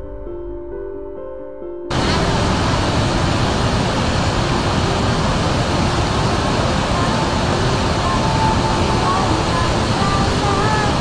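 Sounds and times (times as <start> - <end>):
river torrent rushing: 1.9 - 11.0.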